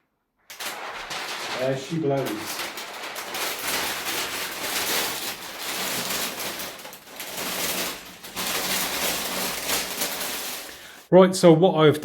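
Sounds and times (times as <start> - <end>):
plastic film crinkling: 0.5 - 11.1.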